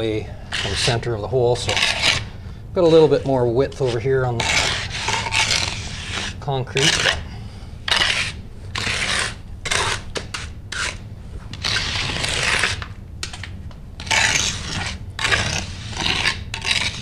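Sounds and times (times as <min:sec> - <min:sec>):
hand float scraping wet concrete: 0:00.0 - 0:07.2, 0:07.9 - 0:12.9, 0:14.0 - 0:17.0.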